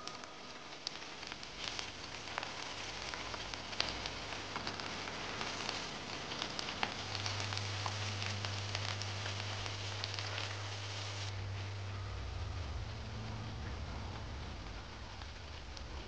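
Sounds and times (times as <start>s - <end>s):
deep-frying sizzle with pops: 0.0s - 16.0s
low steady hum: 0.0s - 16.0s.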